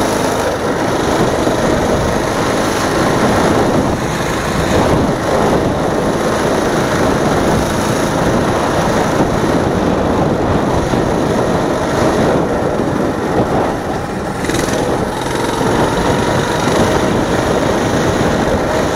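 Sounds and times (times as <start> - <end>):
mini bike engine running: 0.0 - 18.9.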